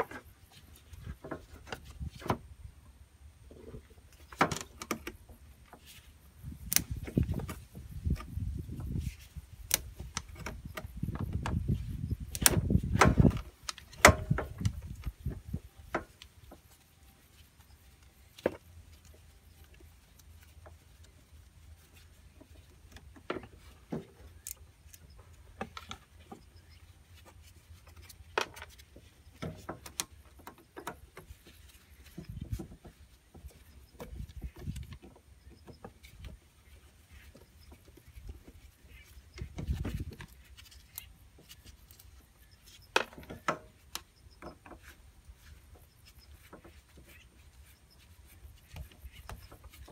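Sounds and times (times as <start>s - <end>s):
low rustling handling noise: 3.3s - 49.9s.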